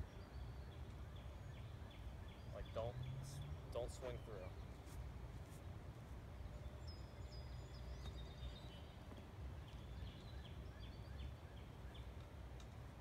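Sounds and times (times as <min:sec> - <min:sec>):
small birds chirping: 0:00.0 - 0:05.1, 0:06.1 - 0:13.0.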